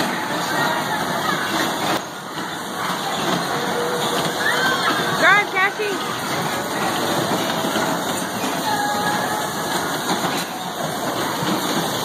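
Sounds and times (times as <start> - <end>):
bumper car motors humming: 0.0 - 12.0
wheels rolling across floor: 0.0 - 12.0.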